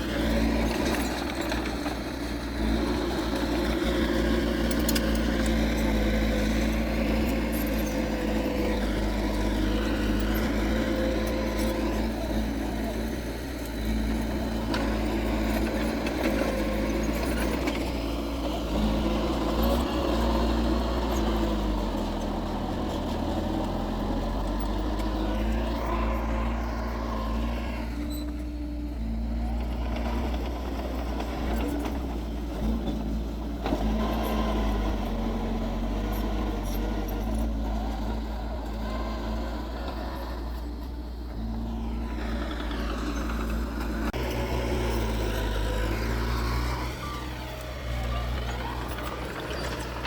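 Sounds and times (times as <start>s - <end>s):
heavy machinery diesel engine: 0.0s - 50.0s.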